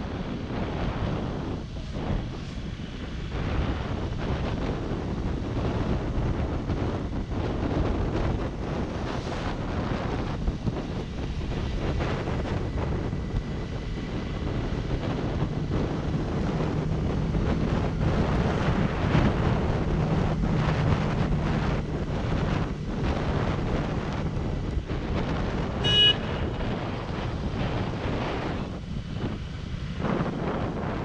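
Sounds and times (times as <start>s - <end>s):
low motorcycle engine hum: 0.0s - 31.0s
wind buffeting microphone: 0.0s - 31.0s.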